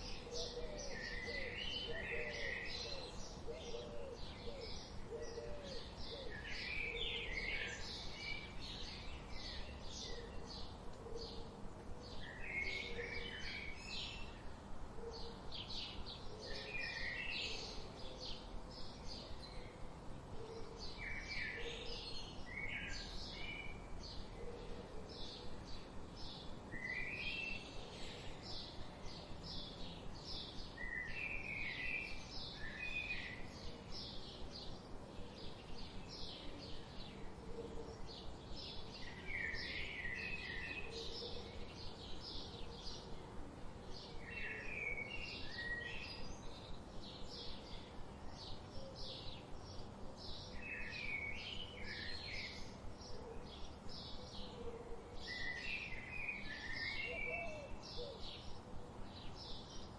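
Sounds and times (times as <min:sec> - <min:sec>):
birds singing: 0:00.0 - 0:59.9.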